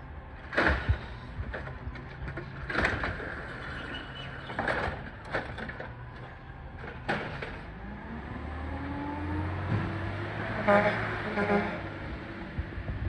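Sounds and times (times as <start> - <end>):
garbage truck diesel engine: 0.0 - 13.0.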